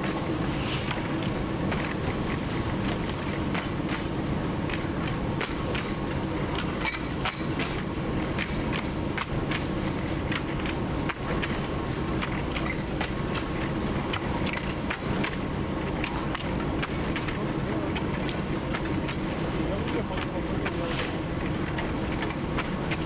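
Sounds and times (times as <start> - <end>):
diesel locomotive engine drone: 0.0 - 23.0
sharp clicks and knocks: 0.9 - 20.8.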